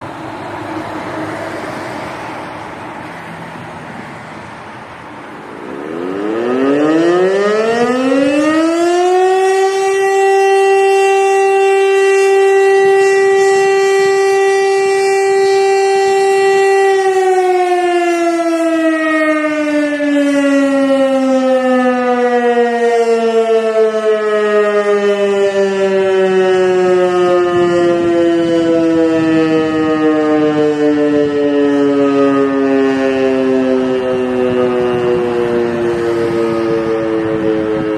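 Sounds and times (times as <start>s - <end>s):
siren winding up and down: 5.5s - 37.9s.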